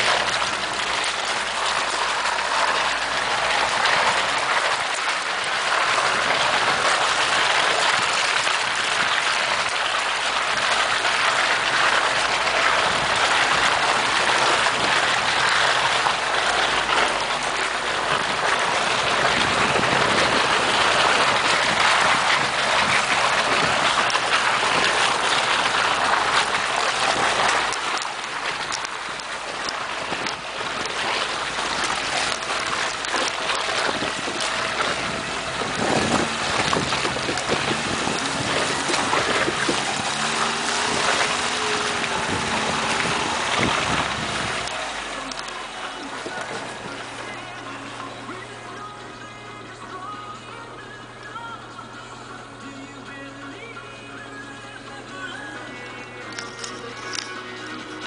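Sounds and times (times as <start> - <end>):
tyres hissing in slush: 0.0 - 48.6
faint small engine: 0.0 - 58.0.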